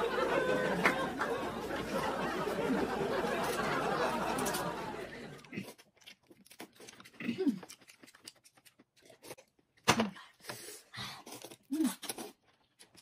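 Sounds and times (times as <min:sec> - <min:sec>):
noodles slurped and chewed: 0:01.6 - 0:09.8, 0:10.4 - 0:13.0.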